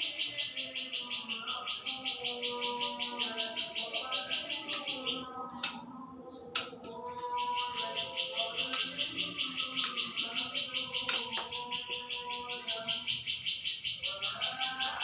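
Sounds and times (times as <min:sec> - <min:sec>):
bird chirping rapidly: 0:00.0 - 0:15.0.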